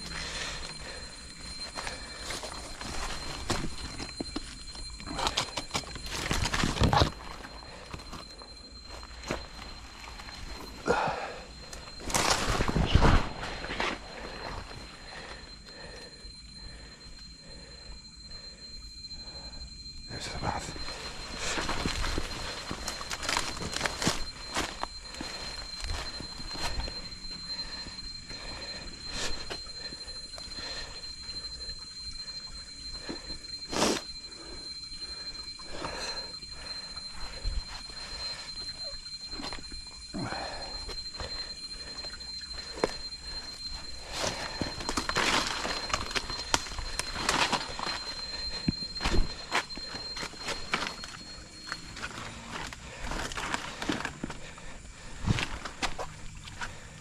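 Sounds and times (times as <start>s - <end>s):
insect high-pitched drone: 0.0s - 57.0s.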